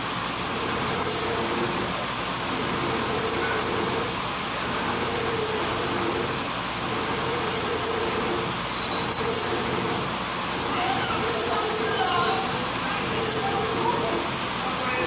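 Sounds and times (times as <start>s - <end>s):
milling machine drone: 0.0s - 15.0s
cutter scraping hiss: 0.6s - 14.5s.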